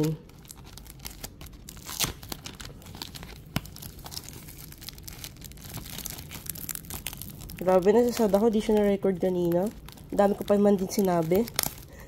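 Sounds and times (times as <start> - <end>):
plastic wrapper crinkling and tearing: 0.0 - 12.0
plastic wrapper snaps: 0.4 - 12.0.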